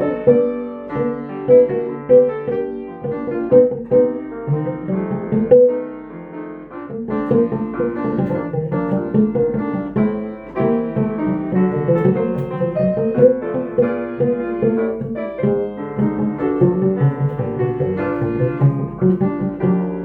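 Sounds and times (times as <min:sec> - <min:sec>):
jazz piano playing: 0:00.0 - 0:20.0.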